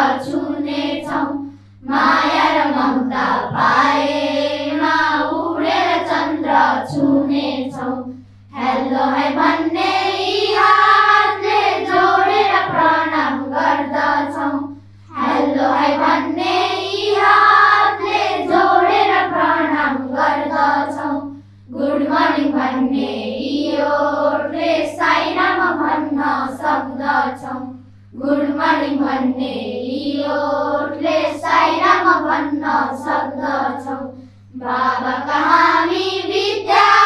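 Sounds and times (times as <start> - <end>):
children singing in unison: 0.0 - 37.0
low electrical hum: 0.0 - 37.0.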